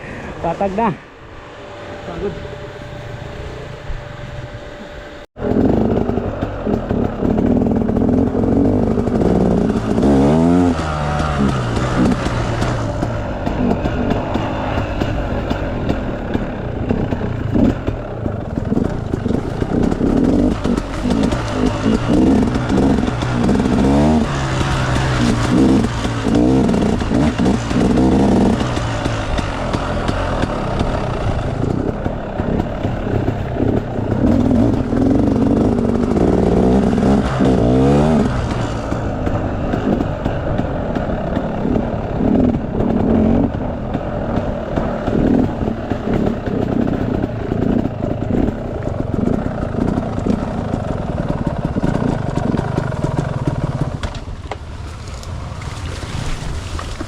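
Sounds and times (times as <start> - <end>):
dirt bike engine revving: 0.0 - 57.0
knocks and rattles over rough ground: 5.4 - 57.0.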